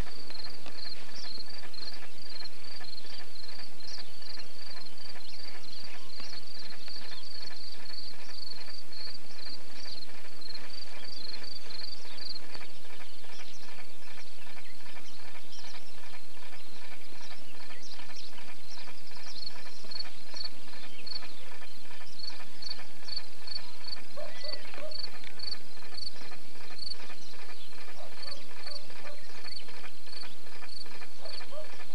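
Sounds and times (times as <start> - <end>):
cricket chirping: 0.0 - 31.9
insects ticking: 0.0 - 31.9.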